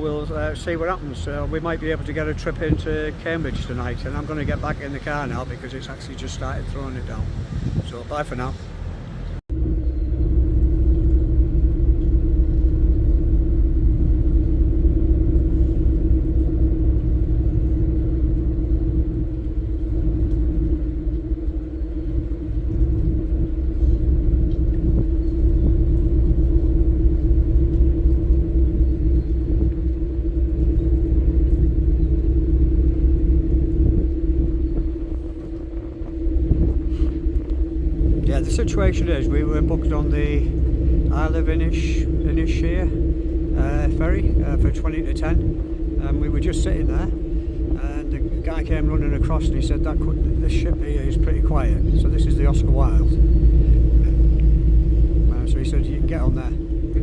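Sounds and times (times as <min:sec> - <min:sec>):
low engine rumble: 0:00.0 - 0:57.0
mid-pitched hum: 0:00.0 - 0:57.0.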